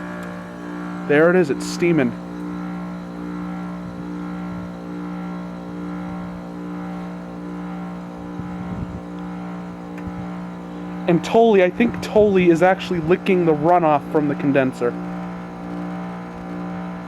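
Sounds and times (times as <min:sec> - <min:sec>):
heat pump compressor hum: 0:00.0 - 0:17.0.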